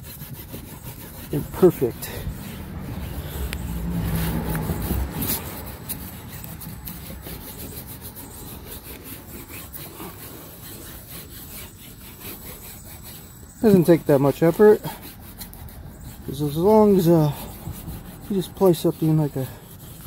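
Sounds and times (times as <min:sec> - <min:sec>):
sanding block rubbing on cloth: 0:00.0 - 0:20.0.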